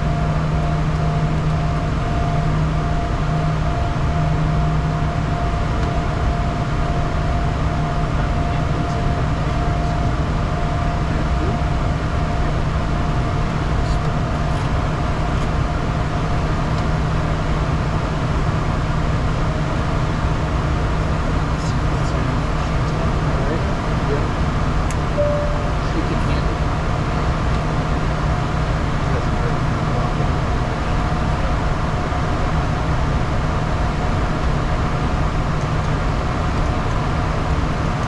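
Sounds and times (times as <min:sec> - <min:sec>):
jet engines and airflow in flight: 0:00.0 - 0:38.0
steady engine whine: 0:00.0 - 0:38.0.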